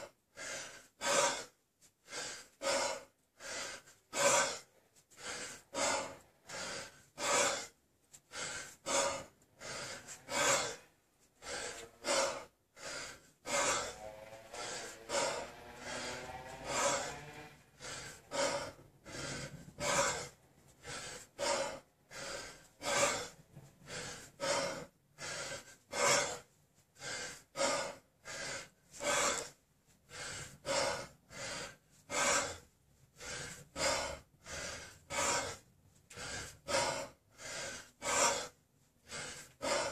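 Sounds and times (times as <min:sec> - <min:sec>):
man breathing hard: 0:00.0 - 0:39.9.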